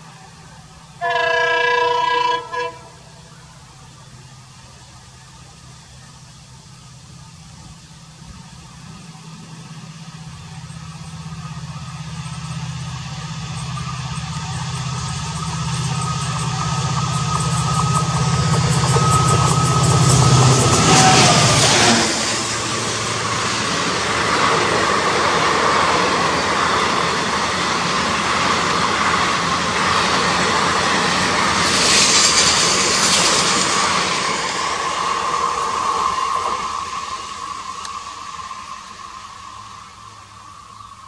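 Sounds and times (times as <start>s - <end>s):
diesel locomotive engine drone: 0.0s - 41.0s
train wheels rushing on rail: 0.0s - 41.0s.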